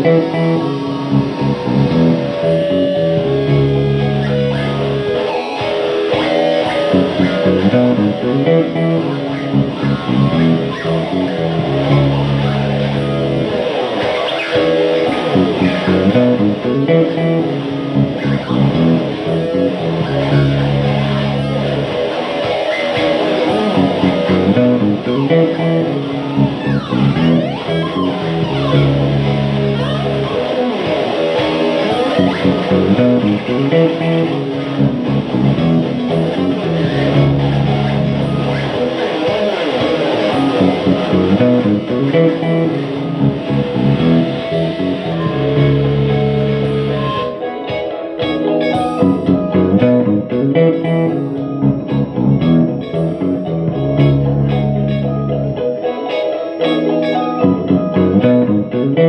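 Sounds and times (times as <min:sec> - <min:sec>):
low bass figure: 0:00.0 - 0:05.2, 0:06.9 - 0:13.6, 0:15.1 - 0:22.0, 0:23.6 - 0:30.4, 0:31.4 - 0:38.9, 0:40.3 - 0:47.4, 0:48.8 - 0:55.6, 0:57.4 - 0:59.0
electric guitar chords: 0:00.0 - 0:59.0.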